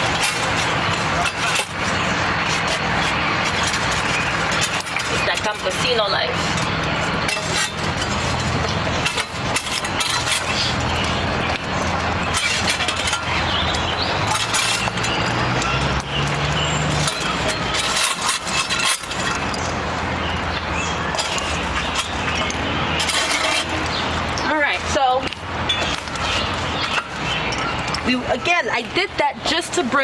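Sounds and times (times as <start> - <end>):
coals clinking and crackling: 0.0 - 30.0
shovel scraping brick hearth: 0.0 - 30.0.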